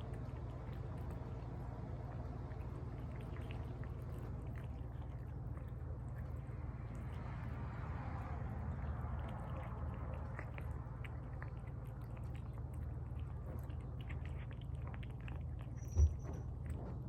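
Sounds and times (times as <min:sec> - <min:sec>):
pets chewing and lapping: 0:00.0 - 0:17.0.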